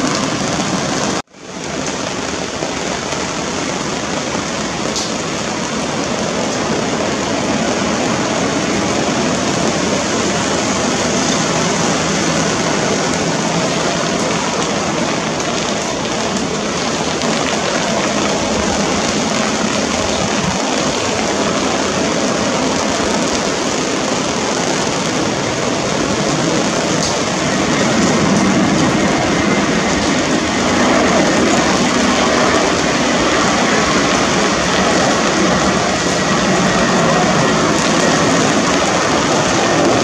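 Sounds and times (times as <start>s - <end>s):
jet engines rushing: 0.0s - 40.0s.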